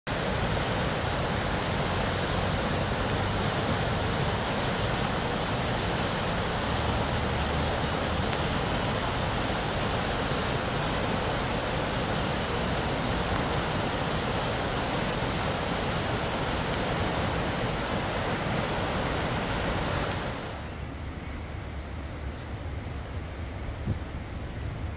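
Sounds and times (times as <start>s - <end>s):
river water rushing: 0.1s - 21.0s.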